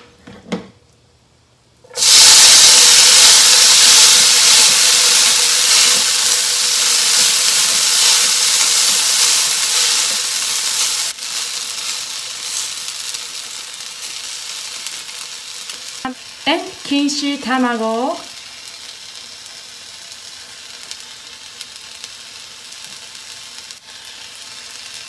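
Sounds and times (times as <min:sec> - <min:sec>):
noodles sizzling in hot oil: 0:01.9 - 0:25.0.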